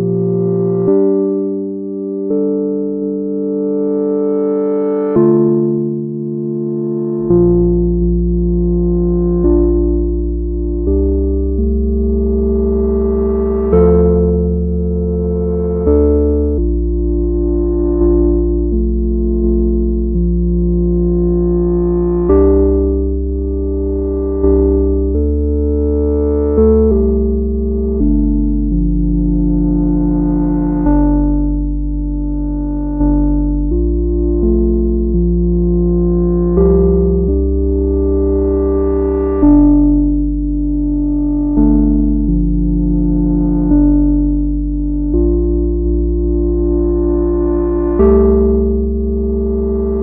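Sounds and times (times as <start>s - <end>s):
synthesizer ambient chords: 0.0s - 50.0s.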